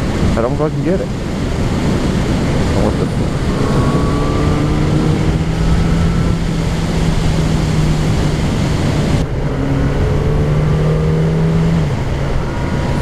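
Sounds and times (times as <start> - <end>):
wind rush on microphone: 0.0 - 13.0
motorcycle engine cruising: 1.2 - 13.0.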